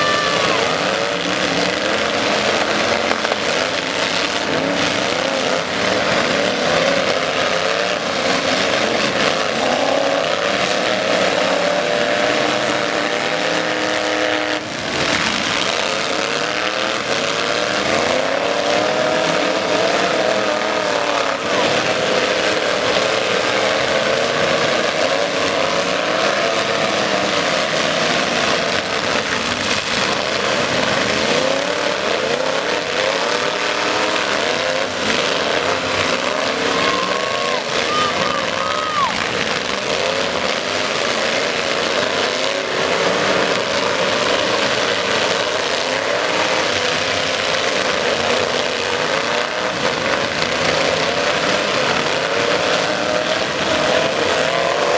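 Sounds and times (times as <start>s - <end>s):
truck engines revving: 0.0s - 54.9s.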